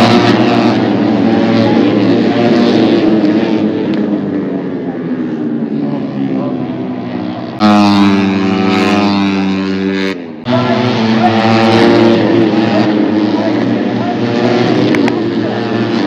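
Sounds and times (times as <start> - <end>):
vehicle engine running loudly: 0.0 - 16.0.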